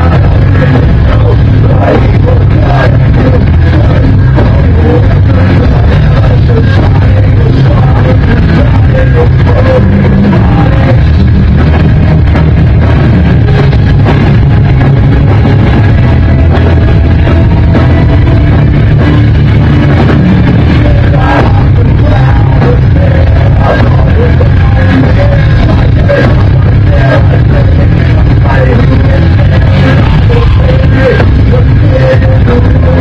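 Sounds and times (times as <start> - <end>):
person singing: 0.0 - 12.3, 13.3 - 33.0
rock band playing live: 0.0 - 33.0.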